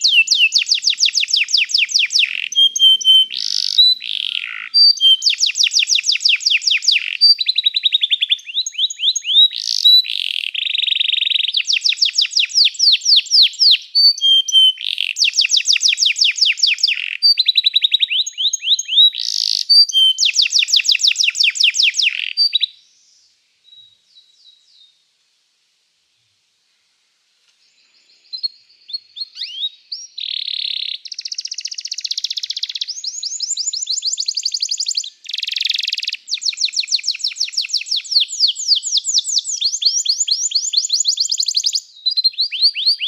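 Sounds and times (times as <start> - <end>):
canary singing trills: 0.0 - 22.8, 27.9 - 43.0.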